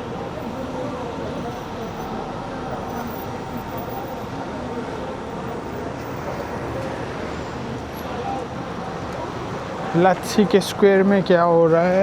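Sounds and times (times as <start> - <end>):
people chattering: 0.0 - 12.0
traffic din: 0.0 - 12.0.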